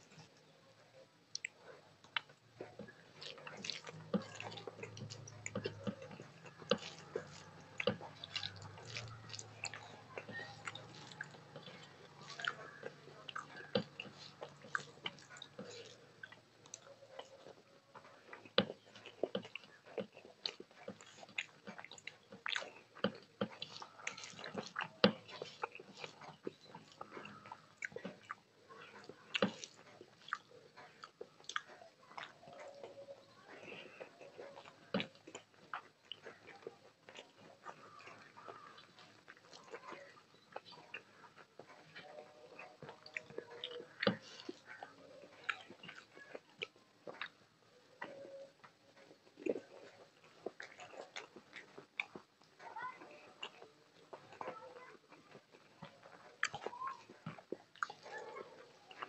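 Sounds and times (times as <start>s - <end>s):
chewing: 0.0s - 59.0s
wet squishes of food mixed by hand: 0.0s - 59.0s.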